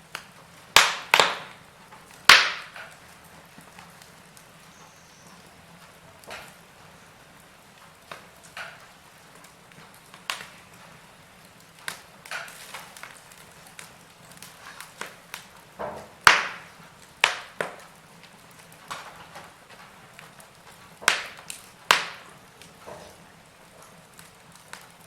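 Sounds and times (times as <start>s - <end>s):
faint steady hiss: 0.0s - 25.0s
wood fire crackling: 0.0s - 25.0s.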